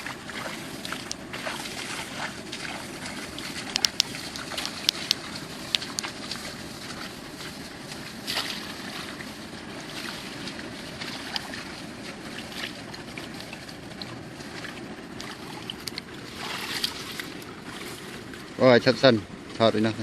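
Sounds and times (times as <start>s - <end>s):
small splashes and drips: 0.0s - 18.6s
water washing: 0.0s - 20.0s.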